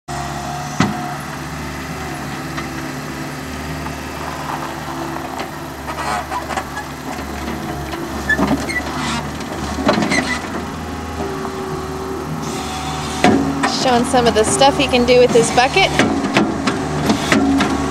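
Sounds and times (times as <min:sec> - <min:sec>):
loader engine running: 0:00.1 - 0:17.9.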